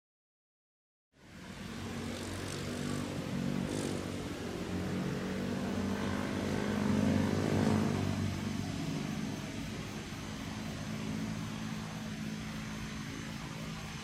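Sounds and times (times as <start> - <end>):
electric train approaching: 1.2 - 14.0.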